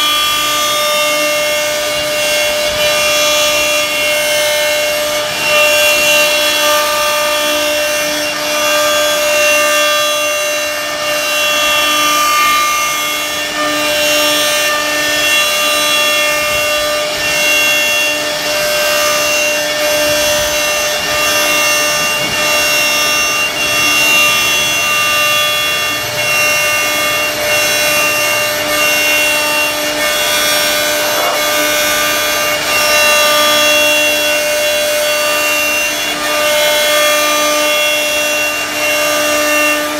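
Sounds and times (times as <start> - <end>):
bit rasping through wood: 0.0 - 39.9
router spindle high whine: 0.0 - 39.9.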